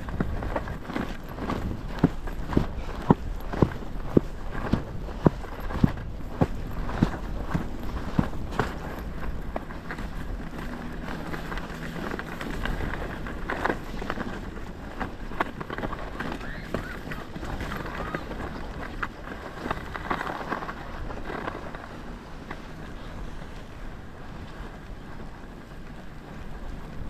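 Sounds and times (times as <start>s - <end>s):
footsteps crunching in snow: 0.0s - 27.0s
wind on microphone: 0.0s - 27.0s.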